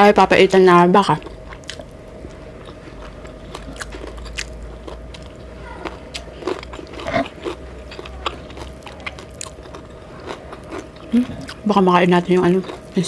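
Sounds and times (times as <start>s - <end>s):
faint hum: 0.0s - 13.0s
person chewing food: 1.1s - 13.0s.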